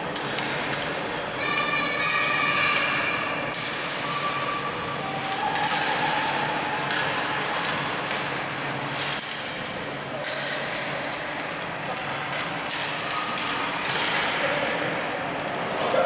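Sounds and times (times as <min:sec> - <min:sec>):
hockey sticks knocking: 0:00.1 - 0:01.0, 0:02.0 - 0:14.8.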